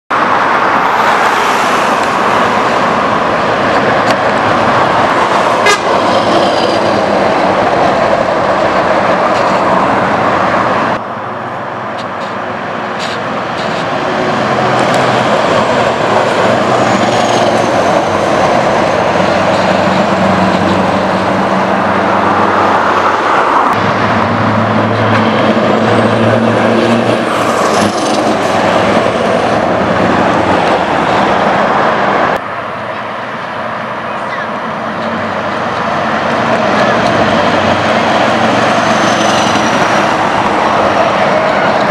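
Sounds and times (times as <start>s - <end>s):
truck engine driving by: 1.1s - 41.9s.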